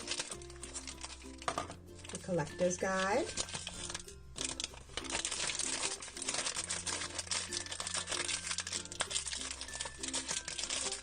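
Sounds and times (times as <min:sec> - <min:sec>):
packaging crinkling: 0:00.0 - 0:11.0
soft background music: 0:00.0 - 0:11.0.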